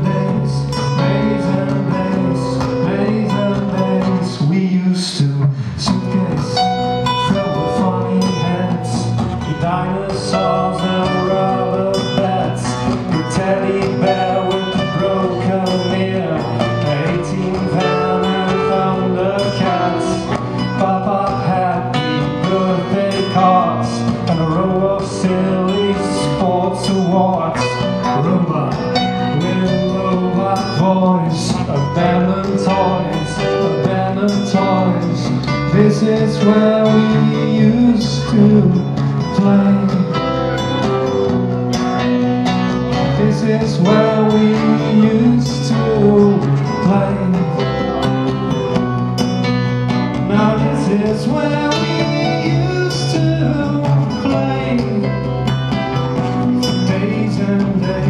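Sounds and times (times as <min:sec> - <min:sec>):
live band playing: 0:00.0 - 0:58.0
man singing: 0:00.0 - 0:58.0.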